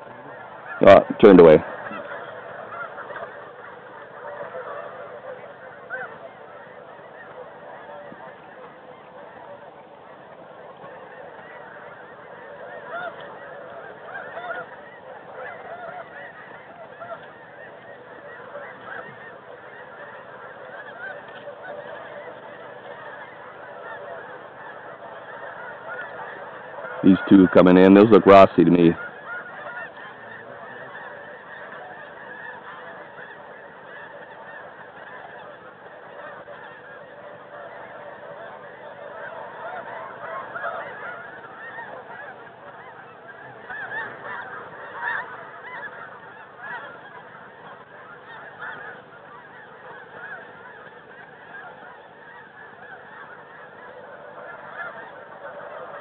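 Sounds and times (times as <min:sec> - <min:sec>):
geese honking chorus: 0:00.0 - 0:56.0.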